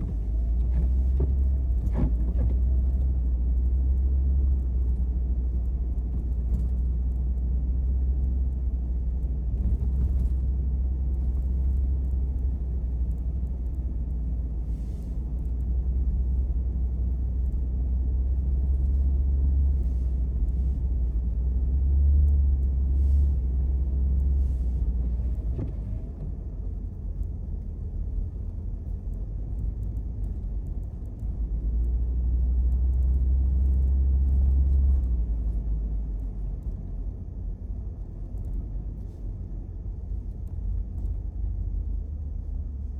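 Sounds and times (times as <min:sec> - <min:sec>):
car driving on snowy road: 0:00.0 - 0:42.9.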